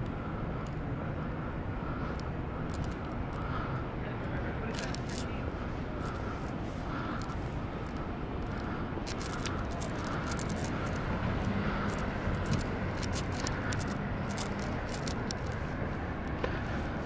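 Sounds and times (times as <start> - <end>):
distant vehicle engines rumbling: 0.0 - 17.0.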